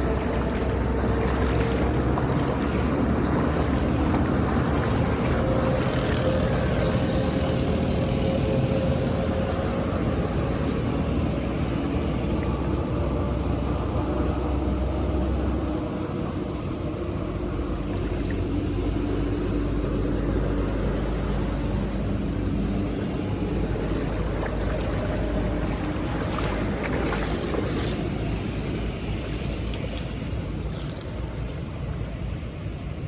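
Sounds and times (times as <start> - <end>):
water splashes: 0.0 - 13.9, 17.2 - 33.0
water rushing through drain: 0.0 - 15.7, 17.2 - 33.0.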